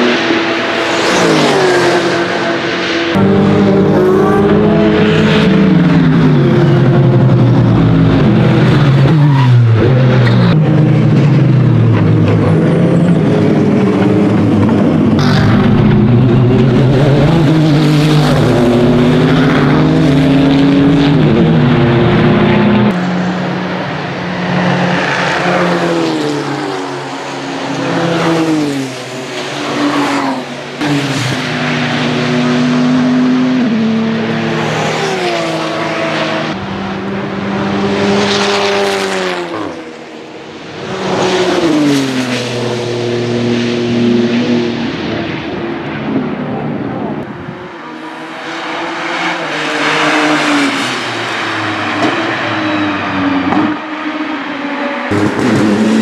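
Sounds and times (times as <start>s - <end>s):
race cars passing: 0.0s - 56.0s.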